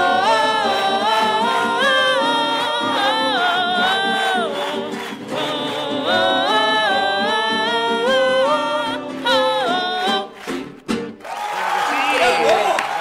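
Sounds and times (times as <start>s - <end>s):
singers in harmony: 0.0s - 10.4s.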